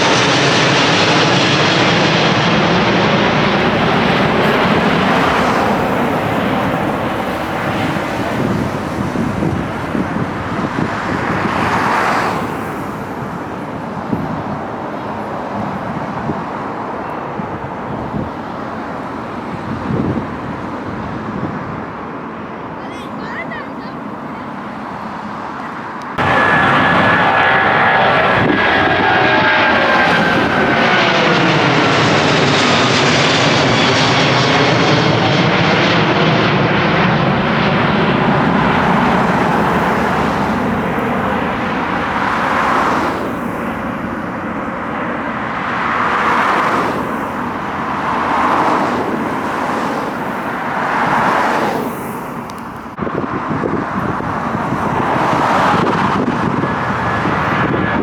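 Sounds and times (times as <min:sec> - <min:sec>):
jet airliner engines roaring: 0:00.0 - 0:58.0.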